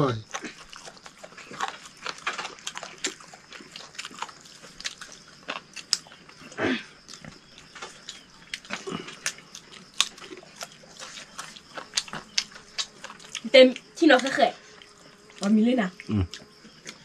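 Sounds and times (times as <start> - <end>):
chewing and lip smacks: 0.3 - 17.0.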